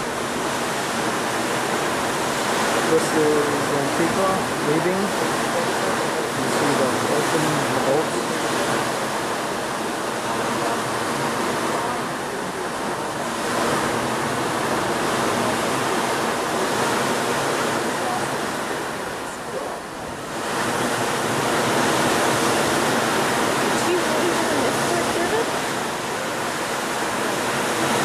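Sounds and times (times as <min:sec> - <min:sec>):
wind and sea rushing: 0:00.0 - 0:28.0.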